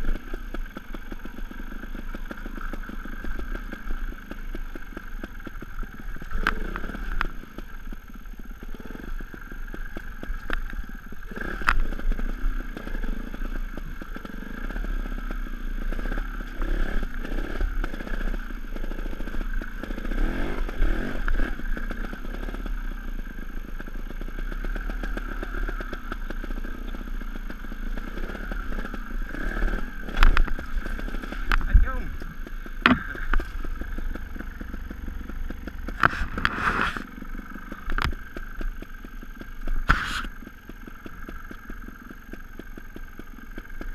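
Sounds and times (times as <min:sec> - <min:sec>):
motorcycle engine revving in bursts: 0:00.0 - 0:07.8, 0:08.4 - 0:43.9.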